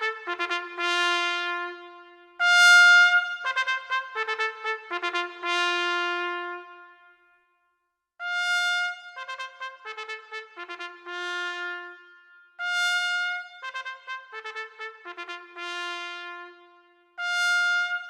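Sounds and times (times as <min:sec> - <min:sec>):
solo trumpet playing: 0:00.0 - 0:07.2, 0:08.2 - 0:18.0.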